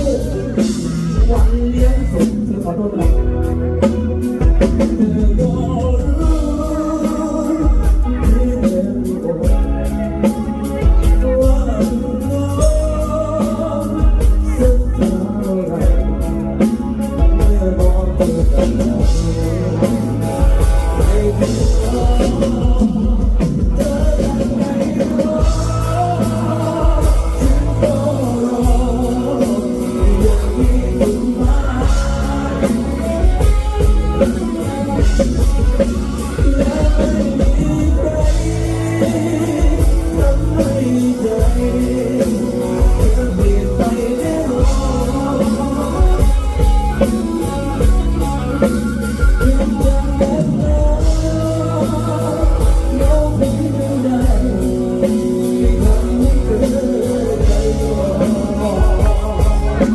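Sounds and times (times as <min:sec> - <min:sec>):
band music with heavy beat: 0:00.0 - 0:59.9
person singing: 0:00.0 - 0:59.9.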